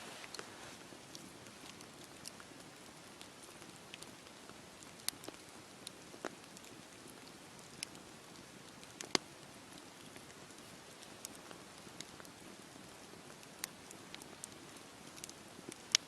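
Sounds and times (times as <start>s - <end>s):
fire crackles and pops: 0.0s - 16.0s
wood fire hissing: 0.0s - 16.0s.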